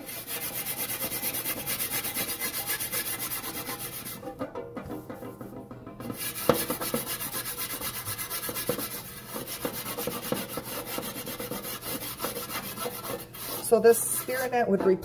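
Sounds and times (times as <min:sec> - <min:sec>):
scrubber scouring metal pan: 0:00.0 - 0:15.0.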